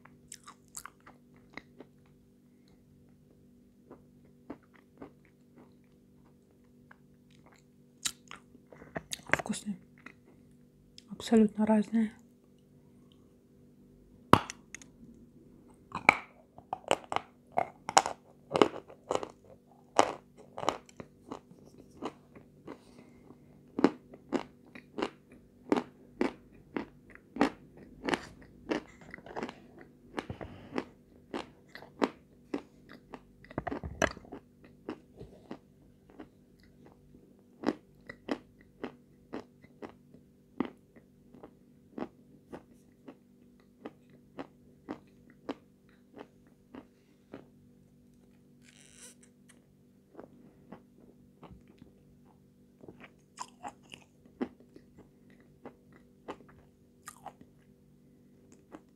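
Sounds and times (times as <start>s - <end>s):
faint steady hum: 0.0s - 58.9s.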